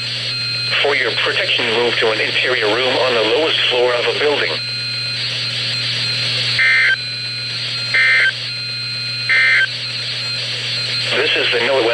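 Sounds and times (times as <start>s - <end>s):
radio hiss and hum: 0.0s - 11.9s
buzzy digital data tones: 0.3s - 11.9s.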